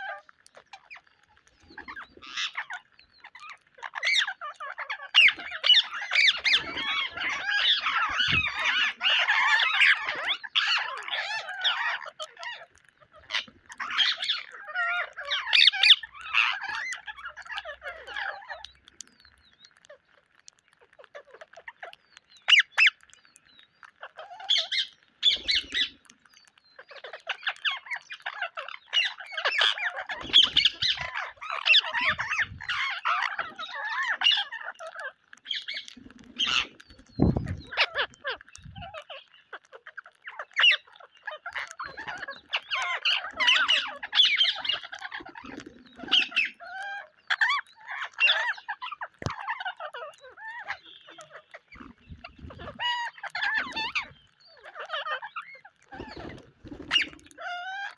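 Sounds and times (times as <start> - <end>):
parakeets squawking and chattering: 0.0 - 57.9.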